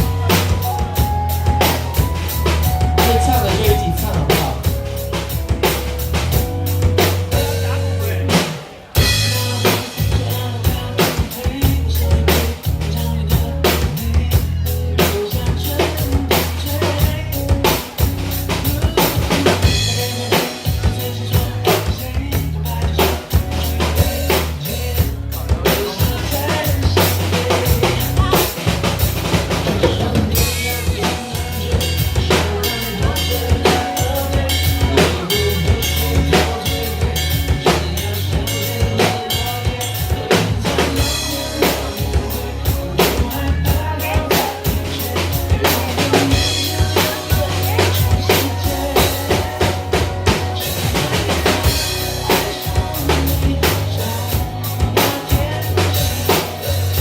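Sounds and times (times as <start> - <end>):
background song music: 0.0 - 57.0
drum kit playing pop beat: 0.0 - 57.0.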